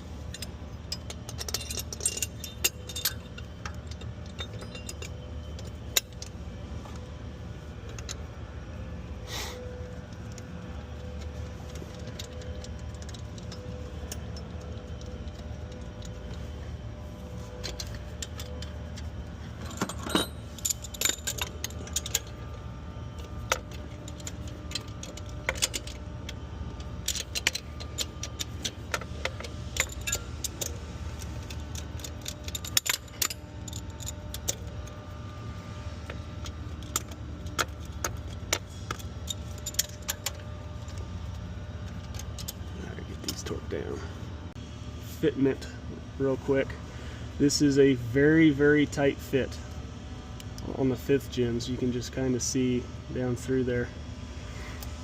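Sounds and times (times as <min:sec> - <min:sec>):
metal tools and bolts clinking: 0:00.0 - 0:44.2
steady low hum: 0:00.0 - 0:55.0.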